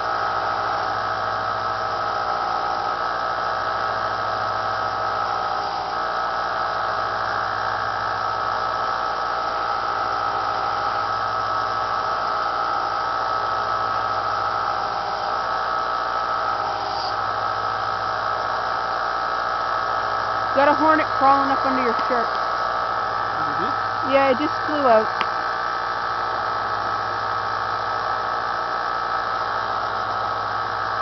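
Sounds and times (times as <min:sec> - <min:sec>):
belt sander motor whirring: 0:00.0 - 0:31.0.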